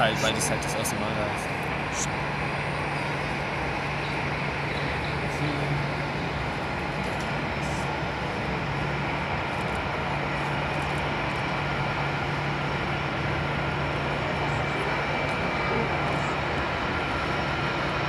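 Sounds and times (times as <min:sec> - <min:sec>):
jet engines rumbling with whine: 0:00.0 - 0:18.0.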